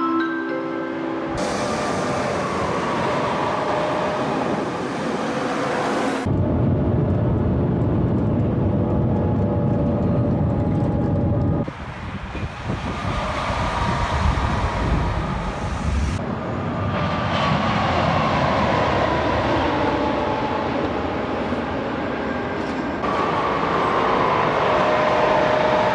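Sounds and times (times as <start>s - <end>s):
train passing by: 0.2s - 25.9s
distant train with falling whine: 1.4s - 25.9s.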